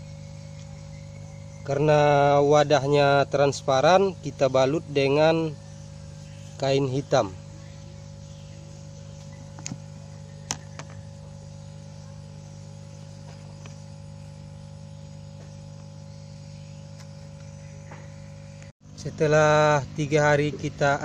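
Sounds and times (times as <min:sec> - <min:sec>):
aquarium air pump humming: 0:00.0 - 0:21.0.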